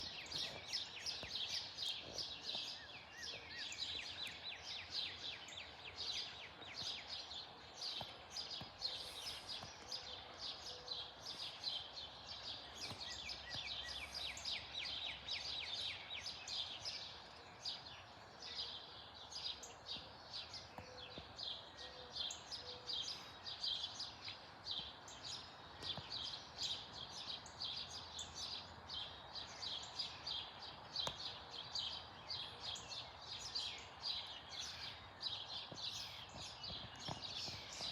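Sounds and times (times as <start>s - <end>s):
faint background noise: 0.0s - 37.9s
small birds chirping: 0.0s - 37.9s.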